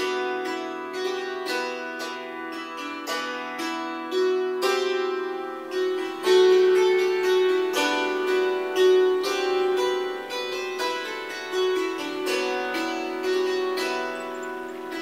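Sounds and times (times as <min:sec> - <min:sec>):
string instrument slow melody: 0:00.0 - 0:15.0.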